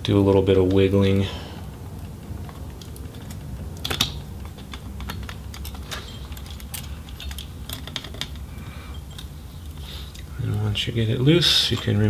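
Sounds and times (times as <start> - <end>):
small clicks and taps of metal parts: 0.0 - 10.3.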